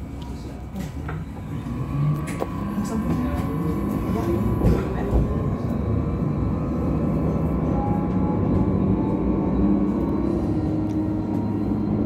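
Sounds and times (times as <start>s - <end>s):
tram wheels rumbling on rail: 0.0s - 12.0s.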